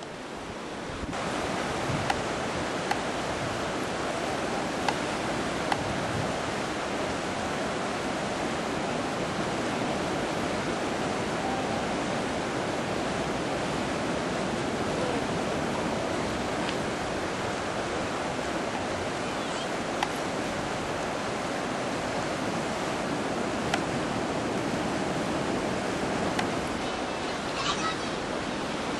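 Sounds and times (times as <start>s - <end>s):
whitewater rushing in river rapid: 0.0s - 28.9s.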